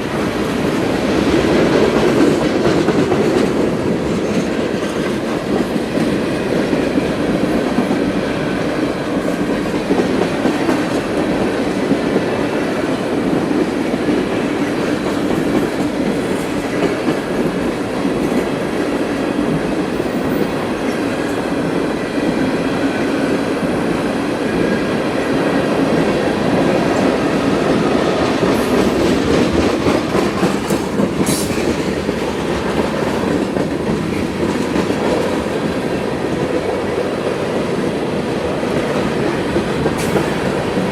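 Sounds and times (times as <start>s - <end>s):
freight train wheels clicking: 0.0s - 40.9s.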